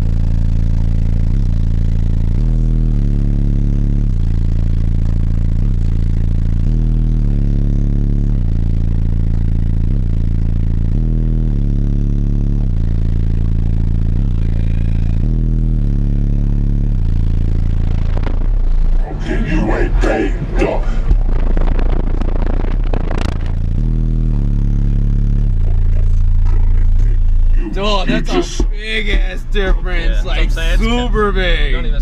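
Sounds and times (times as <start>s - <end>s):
loud deep bass line: 0.0s - 32.0s.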